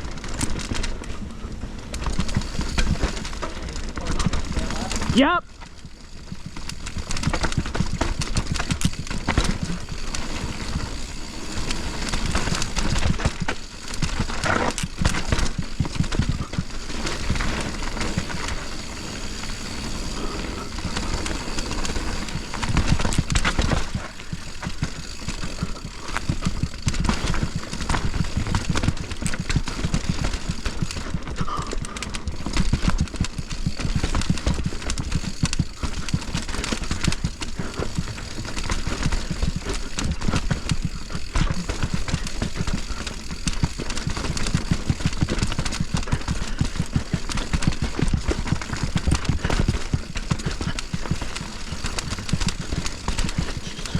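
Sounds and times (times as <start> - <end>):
mountain bike rattling on dirt: 0.0 - 53.9.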